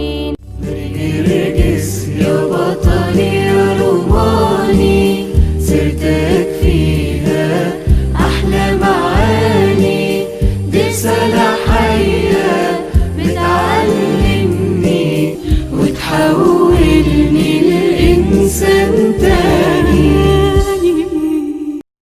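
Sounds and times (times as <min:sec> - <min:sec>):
bass line: 0:00.0 - 0:21.0
percussion hits: 0:00.5 - 0:21.0
choir singing a hymn: 0:00.6 - 0:21.8.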